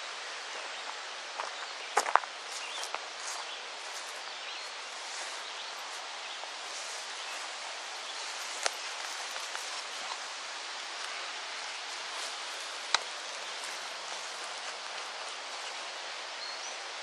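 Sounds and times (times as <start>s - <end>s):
leaves rustling in breeze: 0.0s - 17.0s.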